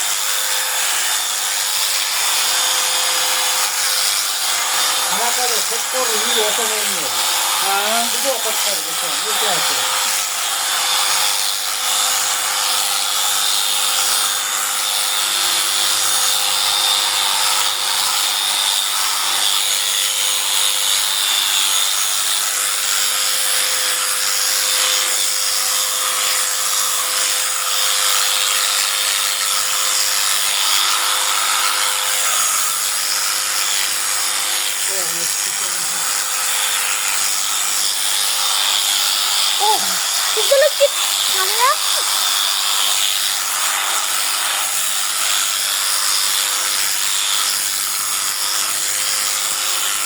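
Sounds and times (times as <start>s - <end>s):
small motorised tool whirring: 0.0s - 50.0s.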